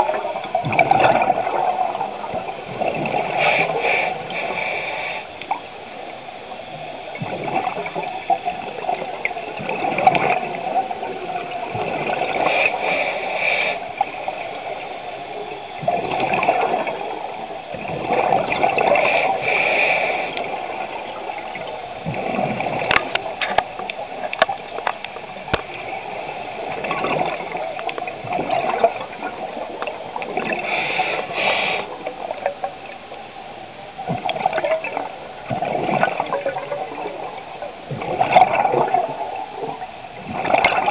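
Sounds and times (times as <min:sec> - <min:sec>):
bubbles gurgling underwater: 0:00.0 - 0:04.5, 0:06.7 - 0:12.8, 0:14.0 - 0:19.5, 0:20.3 - 0:33.1, 0:34.0 - 0:40.9.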